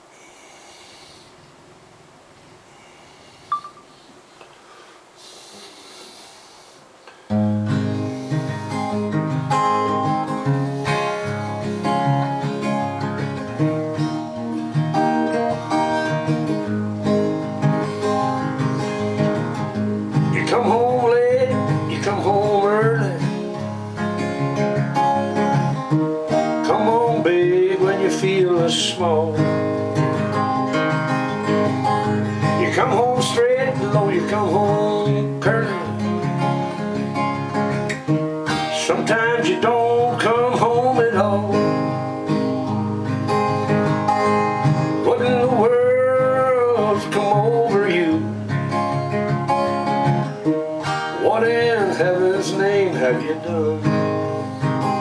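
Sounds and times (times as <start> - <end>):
acoustic guitar strumming: 7.2 - 55.0.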